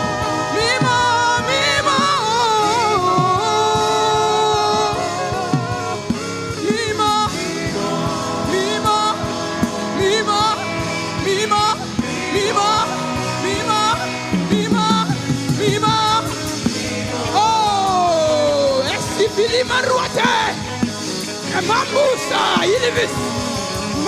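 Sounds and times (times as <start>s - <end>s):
person singing gospel: 0.0s - 24.0s
sustained chords and percussion: 0.0s - 24.0s.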